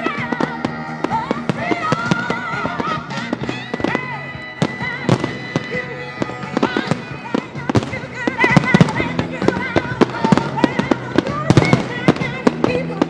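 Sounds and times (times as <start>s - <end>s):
fireworks banging: 0.0s - 13.0s
music: 0.0s - 13.0s.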